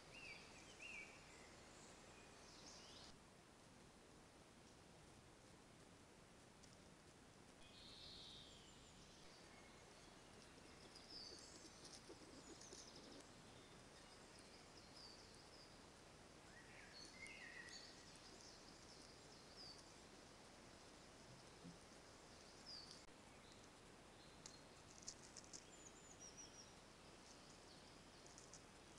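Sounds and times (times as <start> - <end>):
small birds chirping: 0.0 - 3.2, 7.5 - 28.9
steady hiss: 0.0 - 28.9.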